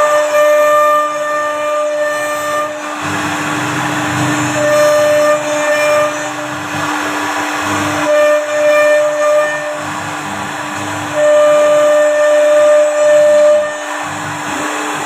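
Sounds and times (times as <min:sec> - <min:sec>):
higher machine tone: 0:00.0 - 0:15.0
hiss of cutting wood: 0:00.0 - 0:15.0
router spindle whine: 0:00.0 - 0:15.0.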